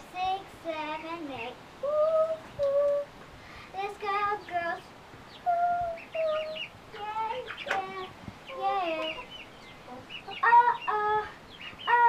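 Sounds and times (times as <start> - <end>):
young girl singing: 0.0 - 12.0.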